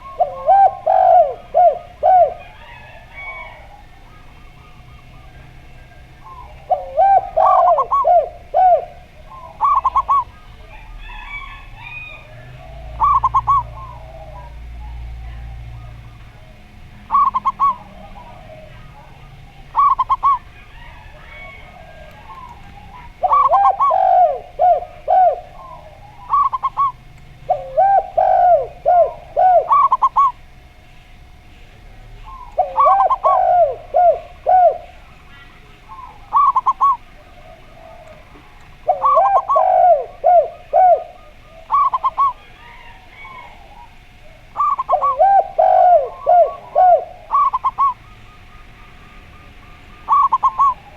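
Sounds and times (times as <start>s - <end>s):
doves cooing: 0.0s - 50.9s
faint steady hum: 0.0s - 50.9s.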